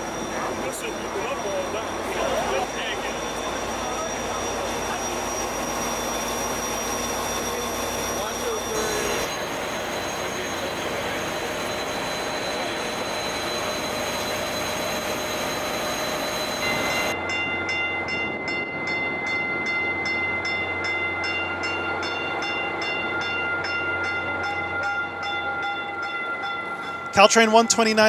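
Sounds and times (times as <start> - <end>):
train noise: 0.0 - 28.0.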